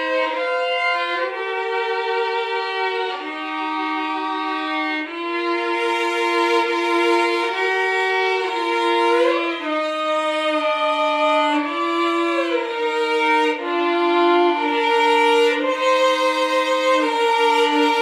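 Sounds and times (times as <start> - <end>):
violin duet playing hymn: 0.0 - 18.0.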